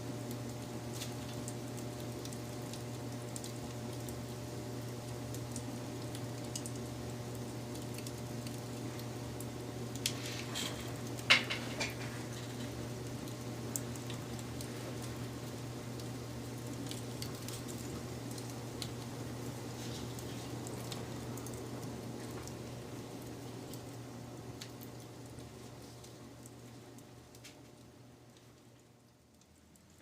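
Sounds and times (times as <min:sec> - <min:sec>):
wood fire crackling: 0:00.0 - 0:30.0
fire popping: 0:00.1 - 0:30.0.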